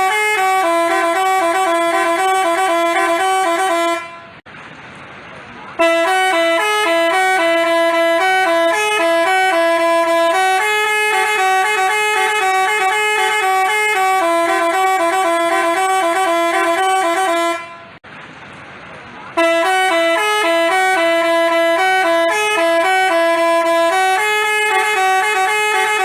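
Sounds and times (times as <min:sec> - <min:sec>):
bus horn playing a melody: 0:00.0 - 0:04.4, 0:05.8 - 0:18.0, 0:19.4 - 0:26.0.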